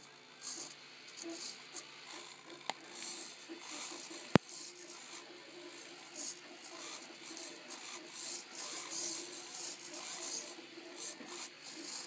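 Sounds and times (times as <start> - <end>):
servos whirring: 0.0 - 12.0.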